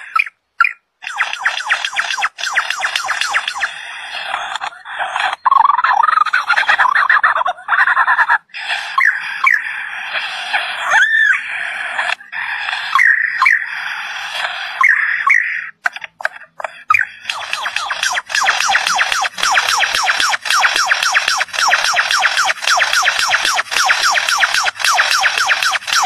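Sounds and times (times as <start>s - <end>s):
lyrebird singing: 0.0s - 4.1s, 5.4s - 10.0s, 12.4s - 14.1s, 14.7s - 26.0s.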